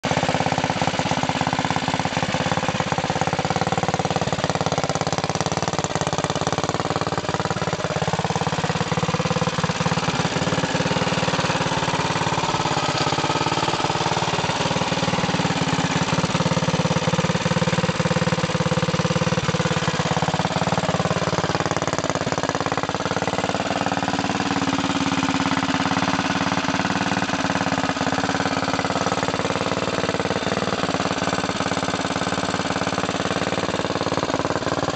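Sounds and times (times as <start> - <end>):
small engine running: 0.0 - 34.9.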